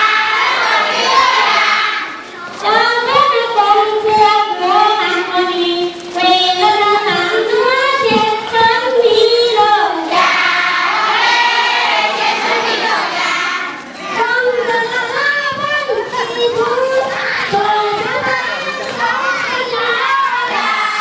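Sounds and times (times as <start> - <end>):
children singing in chorus: 0.0 - 21.0.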